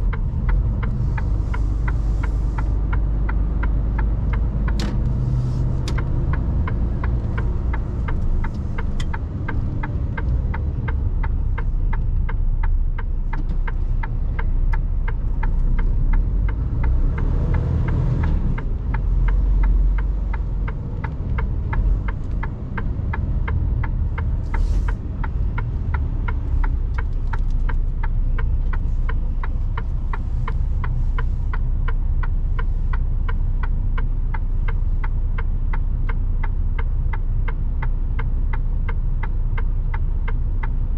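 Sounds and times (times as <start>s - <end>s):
indicator relay ticking: 0.0s - 5.0s, 5.7s - 40.9s
diesel engine rumble: 0.0s - 40.9s.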